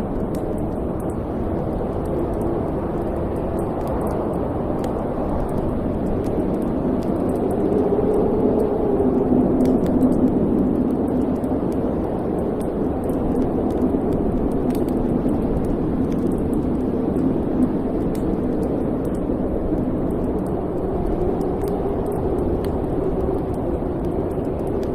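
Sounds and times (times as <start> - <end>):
faint fire crackles: 0.0 - 24.9
wood fire burning: 0.0 - 24.9.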